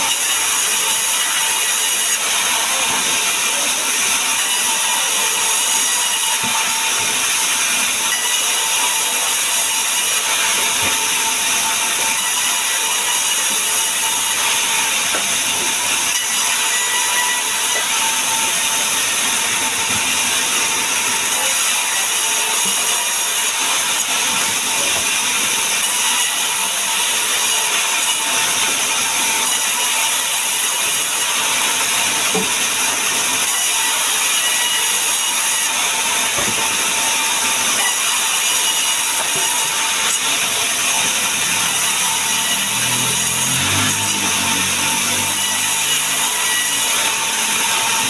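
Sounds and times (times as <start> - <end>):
power saw cutting wood: 0.0 - 48.0.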